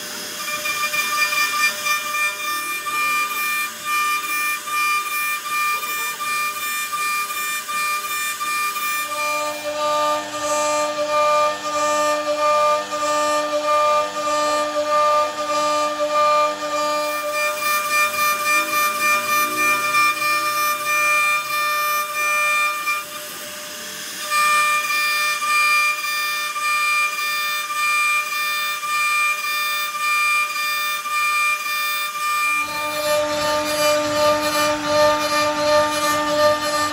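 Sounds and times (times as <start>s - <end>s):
router spindle whining cutting wood: 0.0s - 36.9s.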